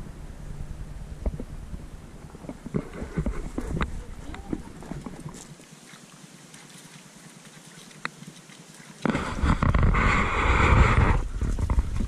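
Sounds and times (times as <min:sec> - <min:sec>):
forest background: 0:00.0 - 0:12.0.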